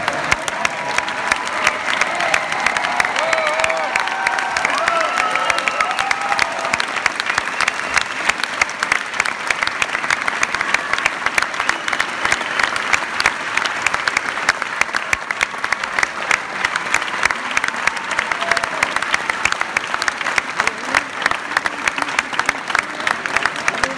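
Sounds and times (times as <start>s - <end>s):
audience applauding: 0.0s - 23.9s.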